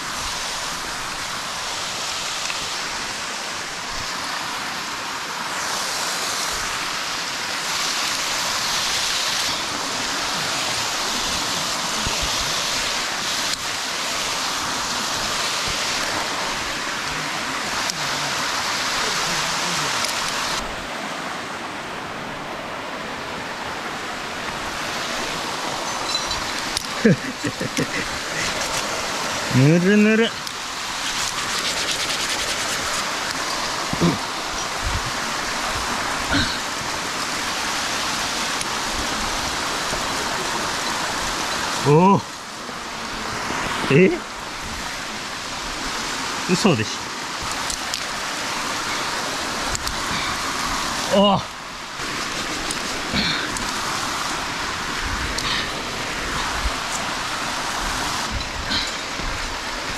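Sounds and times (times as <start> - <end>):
stream and waterfall rushing: 0.0 - 59.9.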